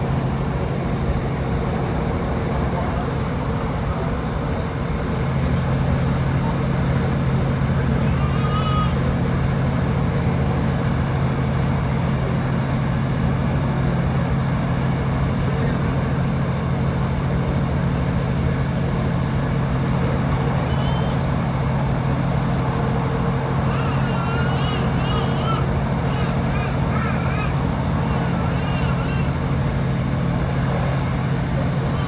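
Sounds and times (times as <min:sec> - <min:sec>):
diesel engine drone: 0:00.0 - 0:32.0
train wheels rumbling on track: 0:00.0 - 0:32.0.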